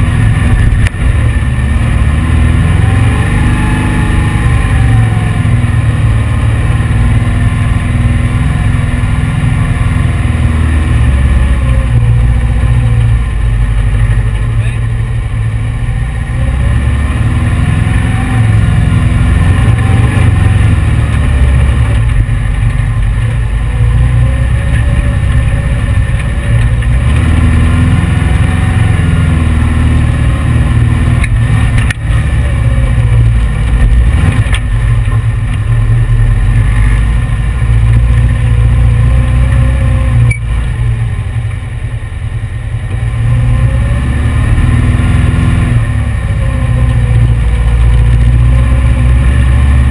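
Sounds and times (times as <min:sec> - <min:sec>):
engine revving: 0:00.0 - 0:49.9.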